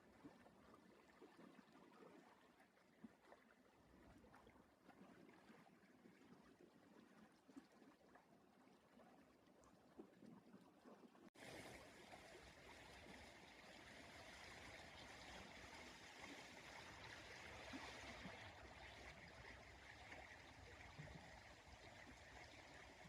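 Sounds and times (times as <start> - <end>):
small stream flowing: 0.0 - 23.0.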